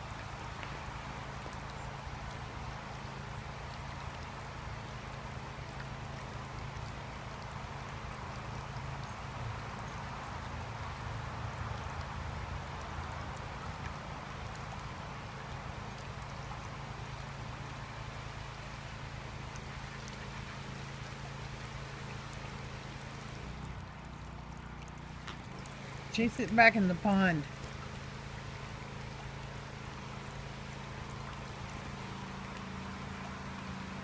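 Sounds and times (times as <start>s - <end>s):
low steady hum: 0.0s - 34.0s
running water in a pond: 0.0s - 34.0s.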